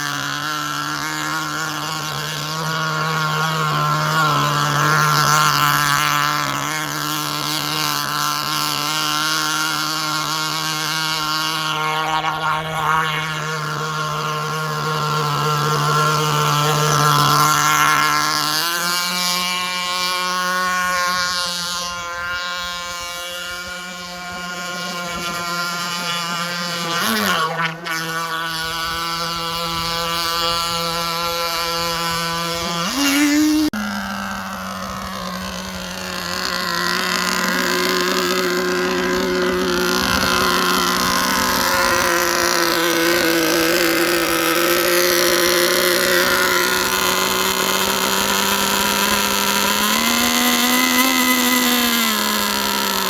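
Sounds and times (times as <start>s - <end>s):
small nitro engine running: 0.0s - 53.0s.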